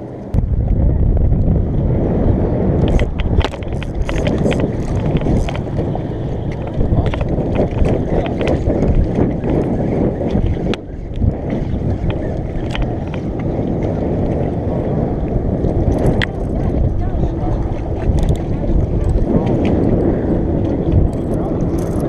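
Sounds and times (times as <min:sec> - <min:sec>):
wind rumbling on microphone: 0:00.0 - 0:22.0
water slapping a hull: 0:00.3 - 0:22.0.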